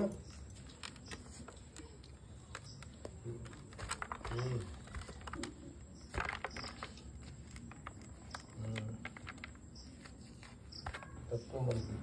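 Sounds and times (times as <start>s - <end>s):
grains crackling and crumbling: 0.0s - 12.0s.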